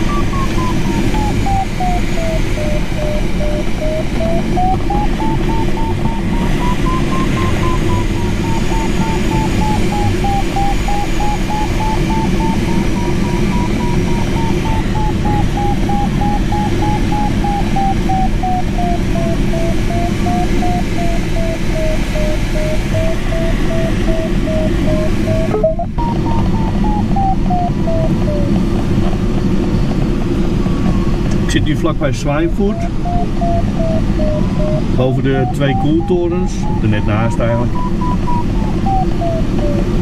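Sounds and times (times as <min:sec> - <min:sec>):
variometer beeping: 0:00.0 - 0:29.2, 0:30.7 - 0:40.0.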